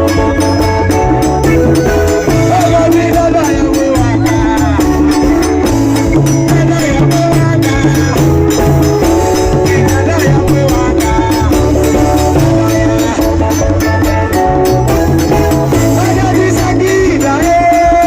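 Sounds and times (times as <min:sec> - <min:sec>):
fast high percussion beat: 0:00.0 - 0:18.0
live band music: 0:00.0 - 0:18.0
strong bass line: 0:00.0 - 0:18.0.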